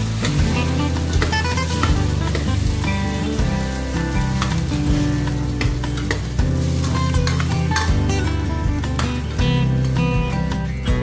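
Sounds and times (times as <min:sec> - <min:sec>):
light background music: 0:00.0 - 0:11.0
pork sizzling in hot oil: 0:00.0 - 0:11.0.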